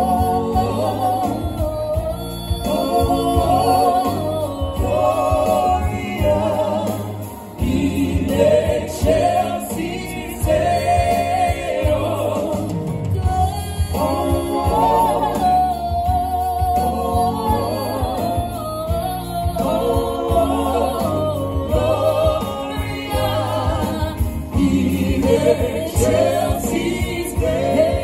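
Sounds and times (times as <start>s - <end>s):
instrumental backing with bass line: 0.0s - 28.0s
voices singing a song: 0.0s - 28.0s.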